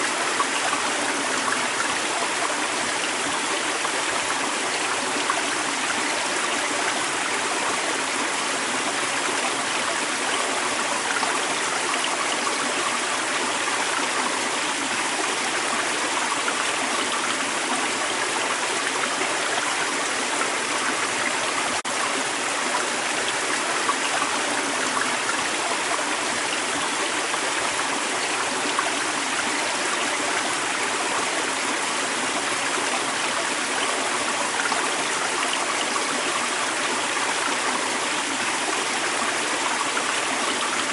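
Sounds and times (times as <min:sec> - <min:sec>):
creek water over rocks: 0:00.0 - 0:40.9.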